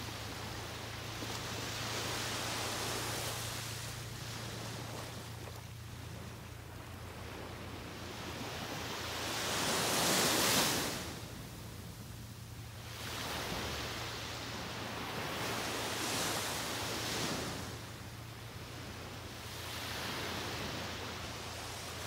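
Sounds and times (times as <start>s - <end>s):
small surf breaking on beach: 0.0s - 6.4s, 7.1s - 11.4s, 12.8s - 22.0s.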